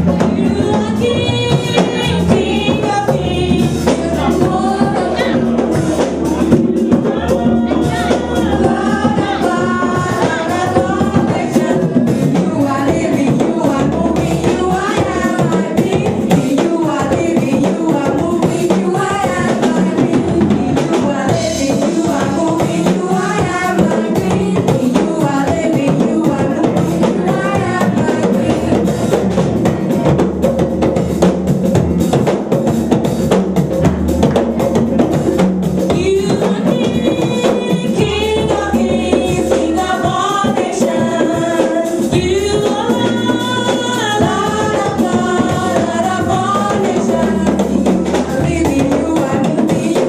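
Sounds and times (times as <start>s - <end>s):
bass line: 0.0s - 49.5s
choir singing gospel: 0.0s - 50.0s
conga drums: 0.0s - 50.0s
steady drum beat: 0.0s - 50.0s.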